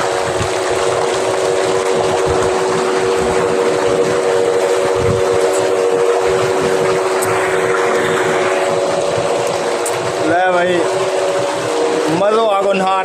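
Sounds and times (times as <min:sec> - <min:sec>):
electric pump humming: 0:00.0 - 0:13.0
water gushing into tank: 0:00.0 - 0:13.0.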